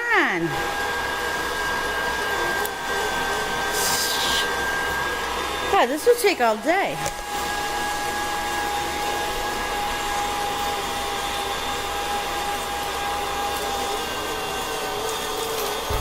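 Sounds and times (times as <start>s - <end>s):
stand mixer motor hum and whine: 0.3s - 16.0s.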